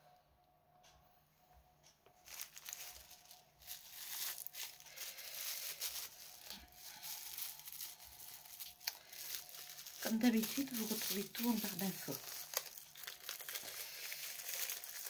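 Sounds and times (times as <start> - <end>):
plastic packaging crinkling: 2.1 - 15.0.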